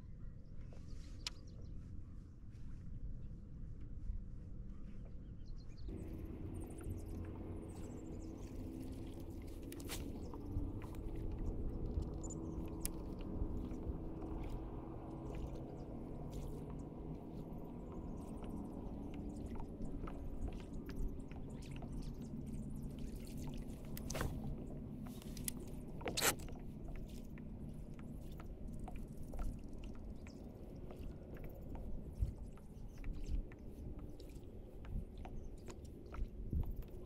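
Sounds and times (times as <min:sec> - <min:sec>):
low steady hum: 0:00.0 - 0:37.0
water slapping against hull: 0:05.9 - 0:37.0.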